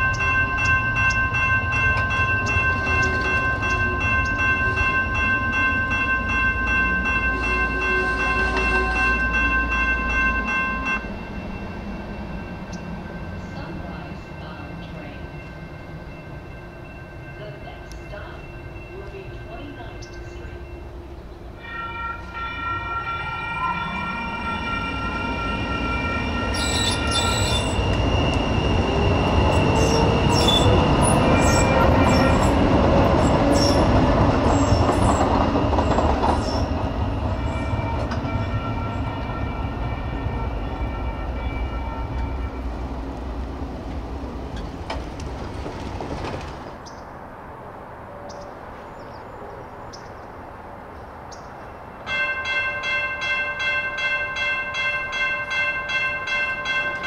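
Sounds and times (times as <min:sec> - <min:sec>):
crossing warning bells: 0:00.0 - 0:45.9, 0:51.2 - 0:57.0
train rumble with rising whine: 0:00.0 - 0:52.1.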